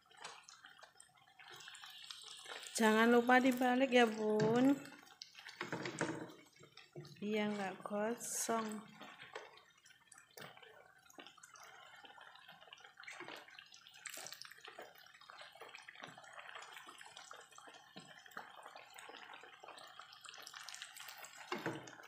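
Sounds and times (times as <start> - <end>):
oil sizzling and crackling: 0.0 - 22.0.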